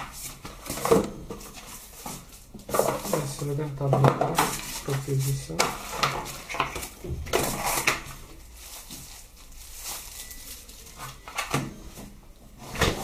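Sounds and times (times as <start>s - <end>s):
paper and plastic rustling: 0.0s - 13.0s.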